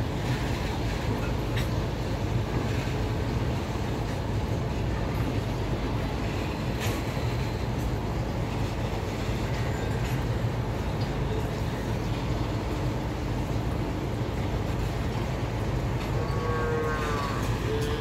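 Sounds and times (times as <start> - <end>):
faint clicks of train wheels: 0.0 - 18.0
train wheels rumbling on rails: 0.0 - 18.0.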